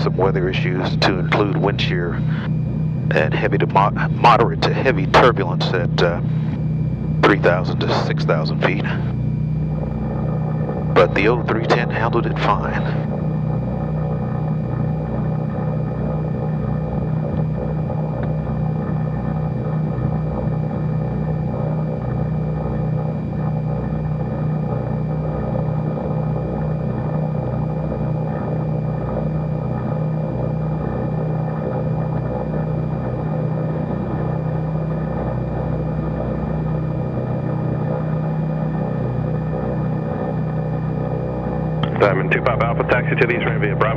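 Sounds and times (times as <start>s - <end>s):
propeller engines droning: 0.0s - 43.9s.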